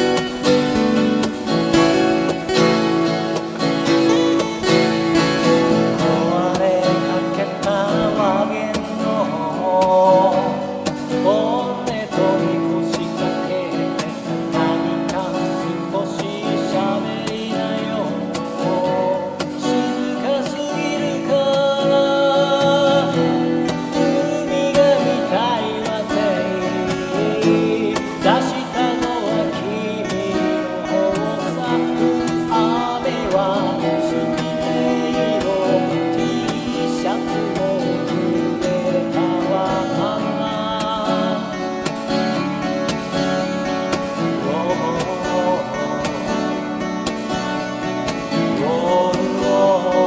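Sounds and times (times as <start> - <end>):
guitar strumming chords: 0.0 - 50.0.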